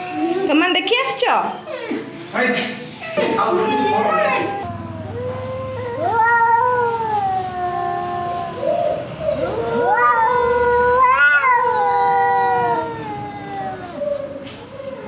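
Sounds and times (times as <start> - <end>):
cats caterwauling: 0.0 - 15.0.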